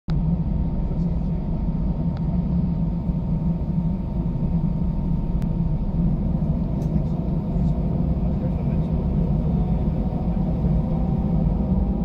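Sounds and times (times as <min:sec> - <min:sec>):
jet engines rumbling in cabin: 0:00.1 - 0:12.0.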